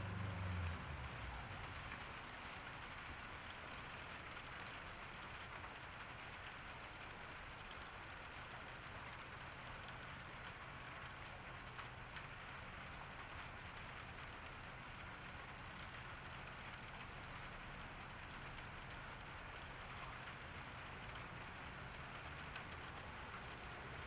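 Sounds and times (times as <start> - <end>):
rain pattering: 0.0 - 24.0
raindrops ticking on surfaces: 0.0 - 24.0.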